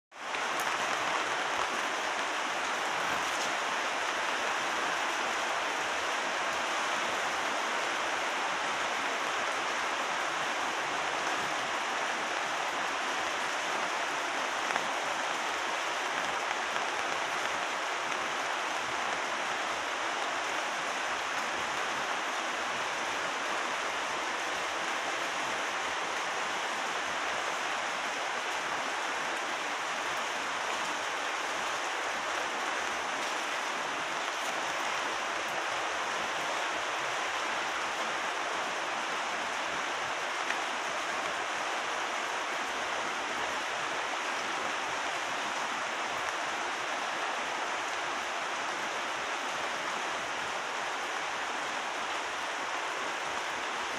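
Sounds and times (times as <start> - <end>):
rain on paving and plants: 0.1 - 53.9.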